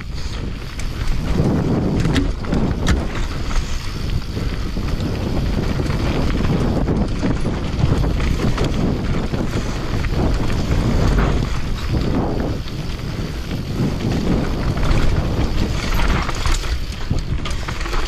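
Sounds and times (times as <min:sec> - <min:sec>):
bike rattling: 0:00.0 - 0:18.0
bike tyres rumbling on trail: 0:00.0 - 0:18.0
wind buffeting microphone: 0:00.0 - 0:18.0.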